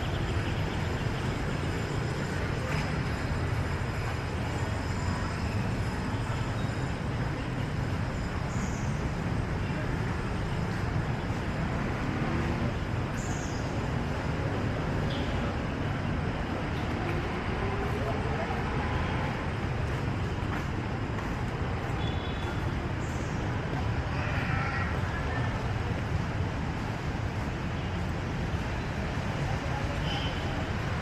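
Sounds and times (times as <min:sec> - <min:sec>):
street traffic rumble: 0:00.0 - 0:31.0.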